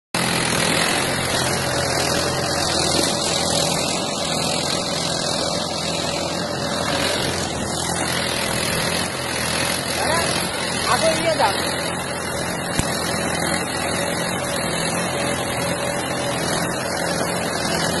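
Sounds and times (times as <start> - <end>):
tractor diesel engine under load: 0.2 - 18.0.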